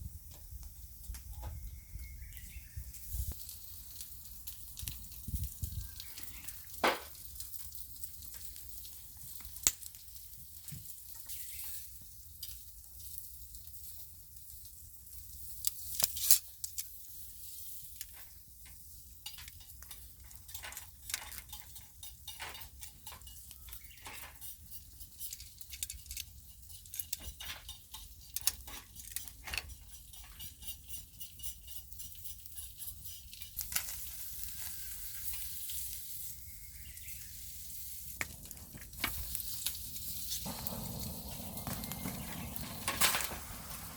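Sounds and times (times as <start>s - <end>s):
clams sizzling on a grill: 2.9s - 43.9s
wood fire crackling and popping: 3.0s - 43.9s.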